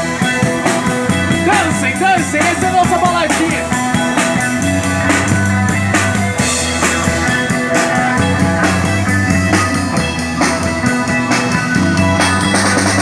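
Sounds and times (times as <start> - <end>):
drum kit beat: 0.0 - 13.0
rock band playing: 0.0 - 13.0.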